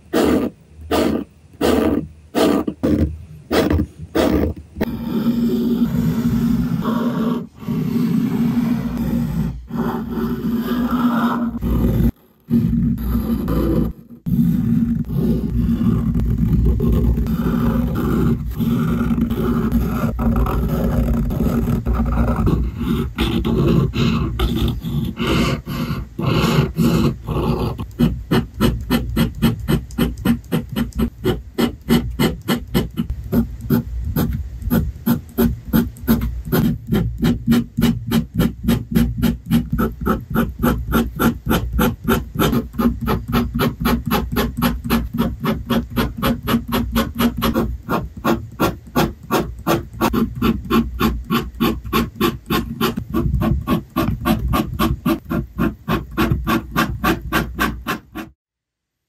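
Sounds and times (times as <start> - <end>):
pen nib scratching on paper: 0.1 - 58.4.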